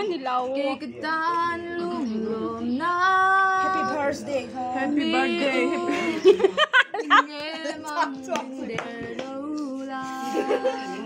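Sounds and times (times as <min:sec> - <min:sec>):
voices singing unaccompanied: 0:00.0 - 0:11.0.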